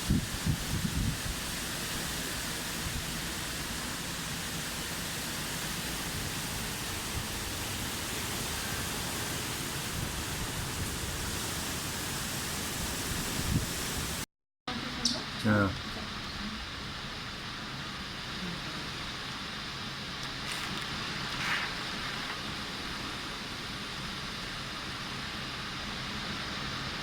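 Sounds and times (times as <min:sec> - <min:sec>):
torrential rain pouring: 0:00.0 - 0:27.0.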